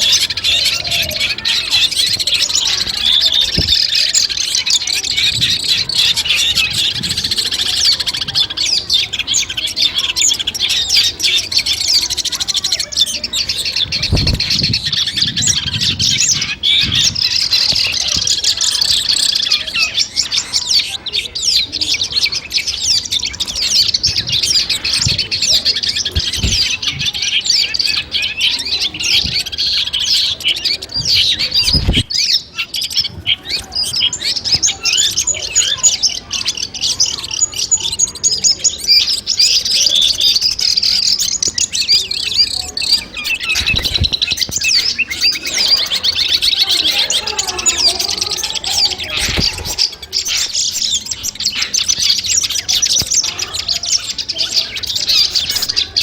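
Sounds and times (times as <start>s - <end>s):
bird song with rapid chirps: 0.0s - 56.0s.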